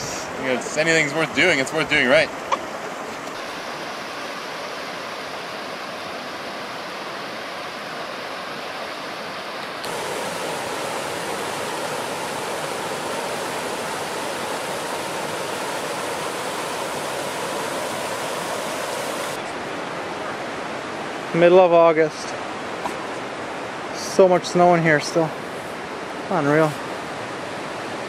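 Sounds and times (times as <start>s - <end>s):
creek water rushing over cascade: 0.0s - 28.0s.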